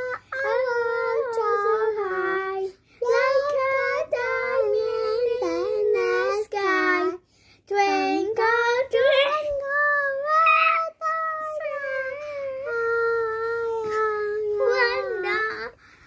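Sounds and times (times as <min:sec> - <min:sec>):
girls singing together: 0:00.0 - 0:15.8.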